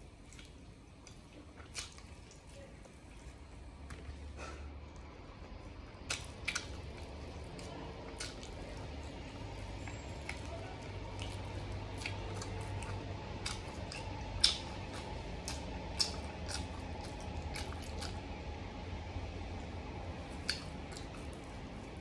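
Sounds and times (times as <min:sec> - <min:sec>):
wet chewing and crunching: 0:00.0 - 0:22.0.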